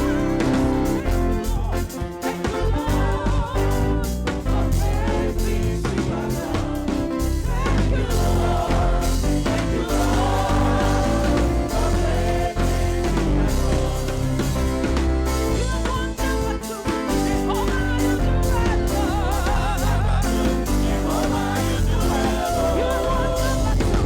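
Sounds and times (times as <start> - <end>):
gospel band playing: 0.0 - 24.0
person singing: 0.0 - 24.0.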